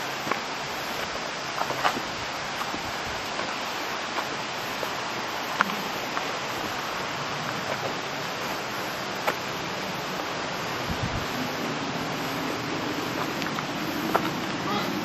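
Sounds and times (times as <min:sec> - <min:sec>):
footsteps on stone steps: 0:00.0 - 0:10.3, 0:12.1 - 0:15.0
waterfall rushing: 0:00.0 - 0:15.0.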